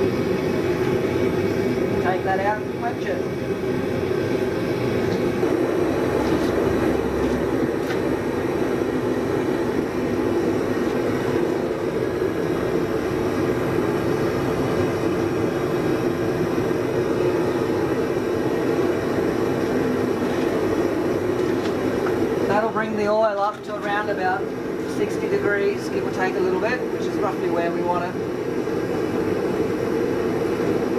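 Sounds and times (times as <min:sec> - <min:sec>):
forge rushing with low hum: 0:00.0 - 0:28.1.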